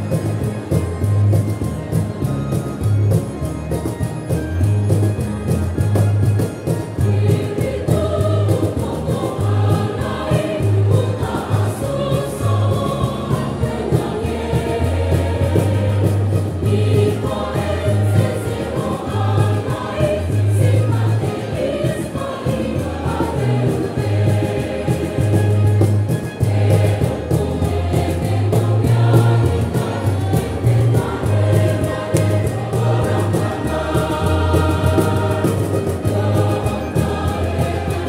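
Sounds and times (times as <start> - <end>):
choir singing a hymn: 6.6 - 38.0.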